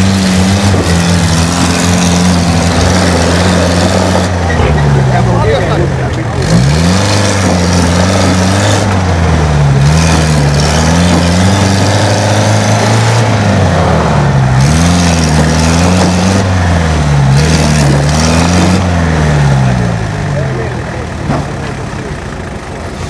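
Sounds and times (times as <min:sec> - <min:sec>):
truck engine revving under load: 0:00.0 - 0:23.0.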